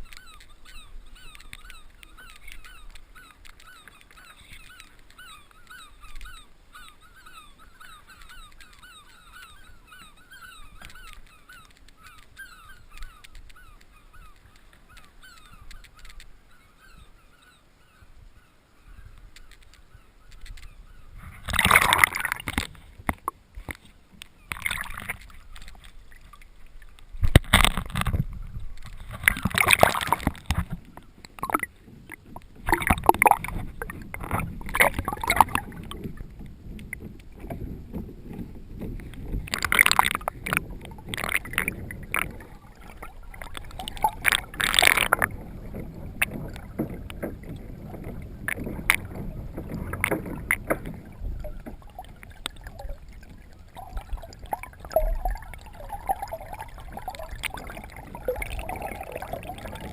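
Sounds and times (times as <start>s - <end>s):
low water wash: 0.0s - 59.9s
water splashing around kayak: 0.0s - 59.9s.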